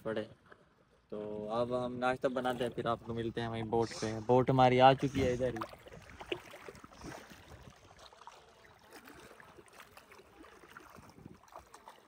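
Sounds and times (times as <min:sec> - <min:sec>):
shallow river water splashing: 0:00.0 - 0:12.0.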